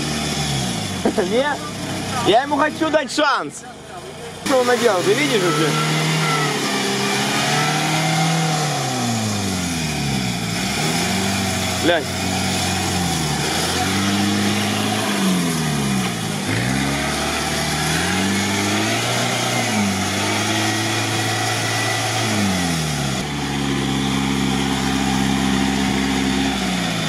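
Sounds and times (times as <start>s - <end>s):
engine revving: 0.0s - 27.0s.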